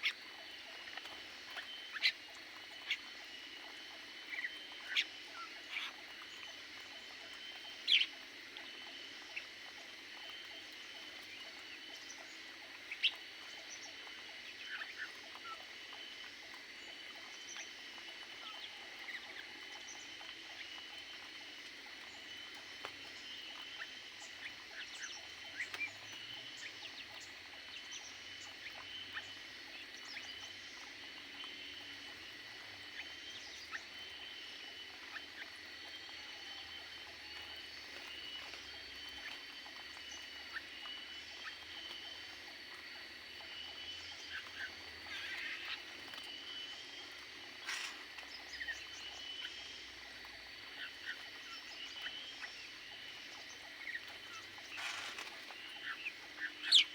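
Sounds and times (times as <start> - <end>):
high-pitched ringing drone: 0.0 - 56.9
small birds chirping: 0.0 - 56.9.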